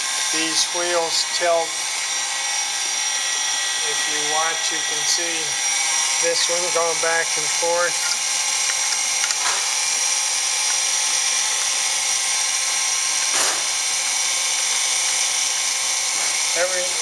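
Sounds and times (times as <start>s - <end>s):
grinder motor whine: 0.0s - 17.0s.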